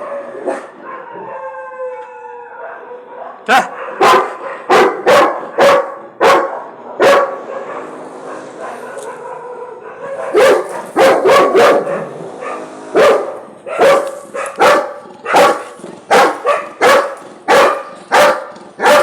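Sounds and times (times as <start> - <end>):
dog barking: 0.0 - 1.3, 2.6 - 19.0.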